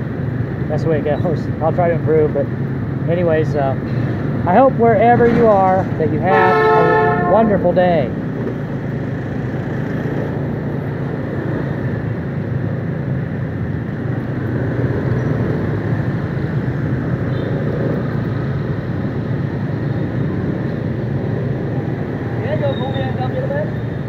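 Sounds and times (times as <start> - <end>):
surrounding traffic: 0.0 - 24.0
wind: 0.0 - 24.0.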